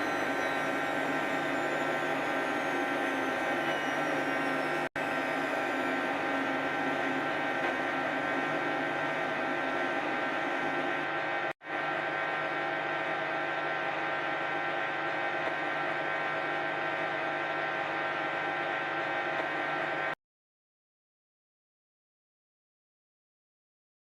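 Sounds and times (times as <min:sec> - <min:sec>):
washing machine spinning: 0:00.0 - 0:20.1.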